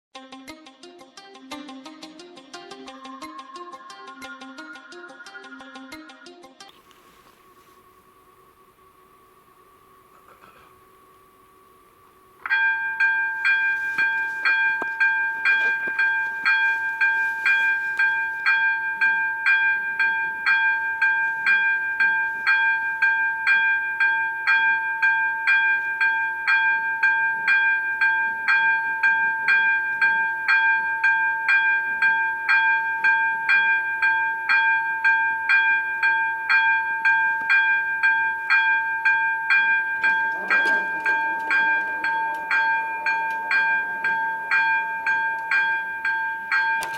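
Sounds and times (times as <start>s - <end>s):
level crossing warning bell: 7.2s - 46.9s.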